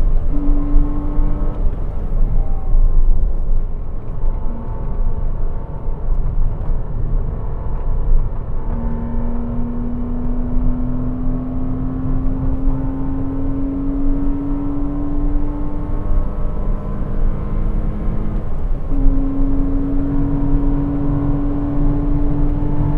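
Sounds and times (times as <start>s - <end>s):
car engine accelerating: 0.0s - 22.9s.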